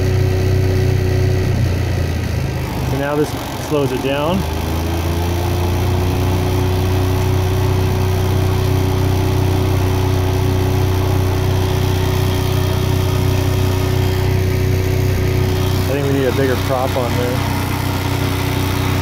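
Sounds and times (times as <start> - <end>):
electric motor hum: 0.0 - 19.0.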